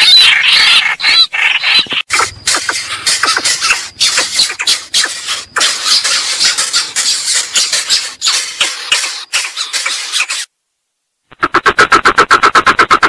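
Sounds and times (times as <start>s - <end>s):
harsh squeaky bird calls: 0.0s - 10.5s.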